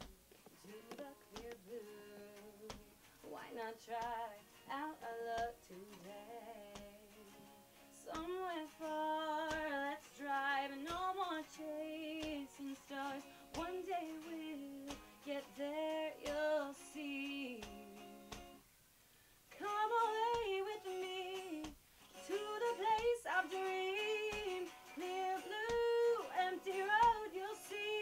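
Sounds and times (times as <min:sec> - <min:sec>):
woman singing slow melody: 0:00.0 - 0:18.3, 0:19.6 - 0:28.0
guitar accompaniment: 0:00.0 - 0:18.6, 0:19.5 - 0:28.0.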